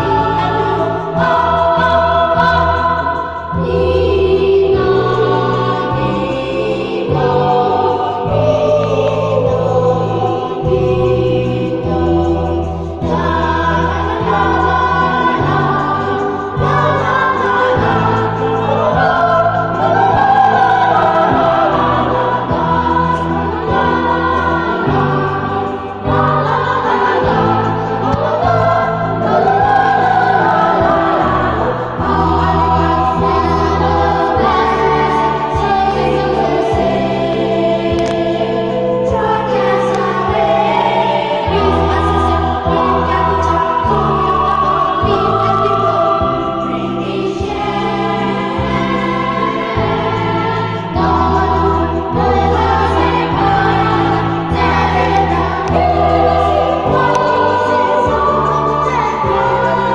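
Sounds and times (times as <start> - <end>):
children's choir singing: 0.0 - 59.9
keyboard accompaniment: 0.0 - 59.9.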